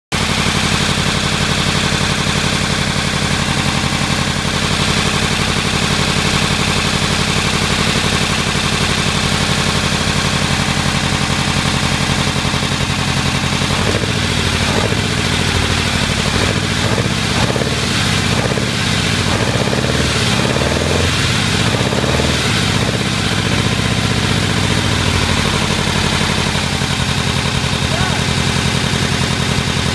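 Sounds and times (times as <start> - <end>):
engine idling and revving: 0.1 - 29.9.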